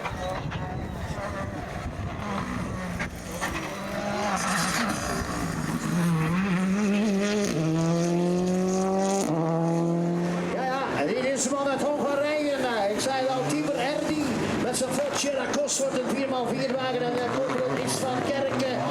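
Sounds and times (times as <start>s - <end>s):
rally car engine accelerating: 0.0s - 18.9s.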